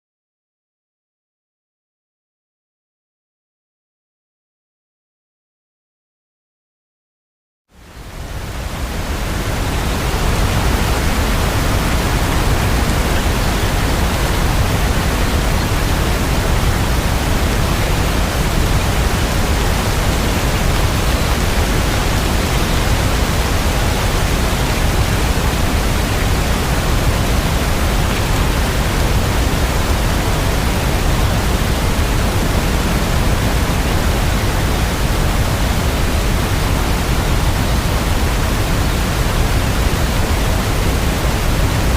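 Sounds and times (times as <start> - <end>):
rain falling steadily: 7.8 - 41.9.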